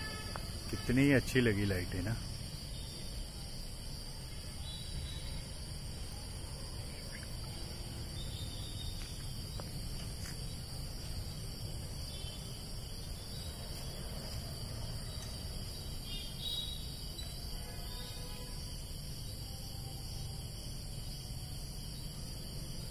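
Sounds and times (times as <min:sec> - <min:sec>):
crickets chirring: 0:00.0 - 0:22.9.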